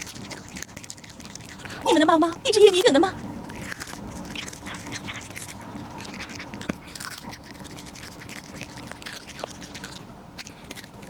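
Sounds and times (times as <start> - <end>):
cat crunching on corn cob: 0.0 - 11.0.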